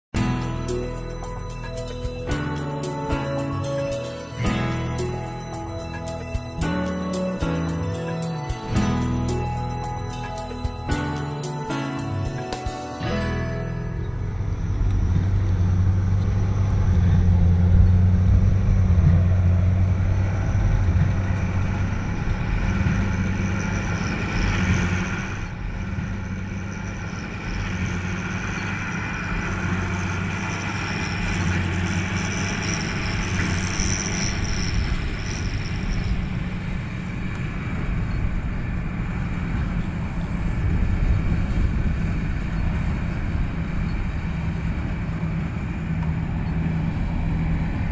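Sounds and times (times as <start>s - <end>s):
tractor engine droning: 0.1s - 47.9s
machinery whine: 0.2s - 47.9s.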